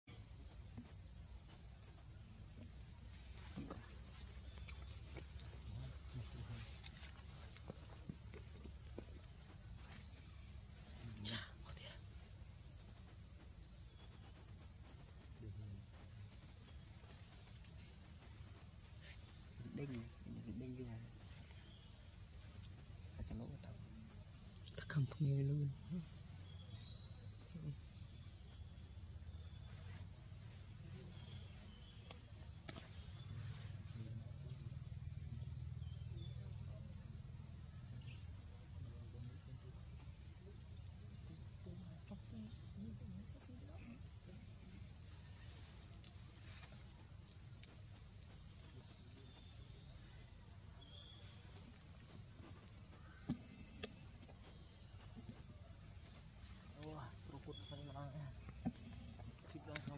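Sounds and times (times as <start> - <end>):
high-pitched insect chorus: 0.1 - 59.9.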